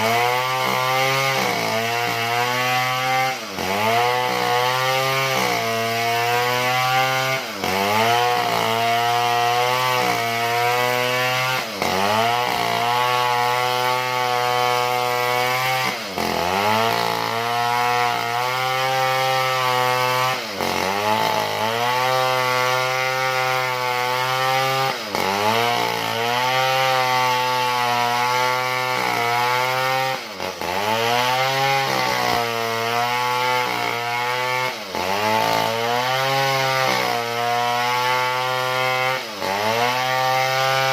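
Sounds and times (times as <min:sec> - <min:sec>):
chainsaw ripping a log: 0:00.0 - 0:40.9.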